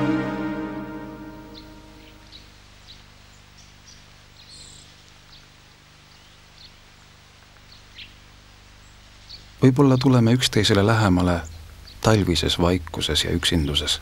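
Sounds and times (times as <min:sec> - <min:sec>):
low steady hum: 0:00.0 - 0:07.6, 0:08.2 - 0:14.0
small birds chirping: 0:01.4 - 0:14.0.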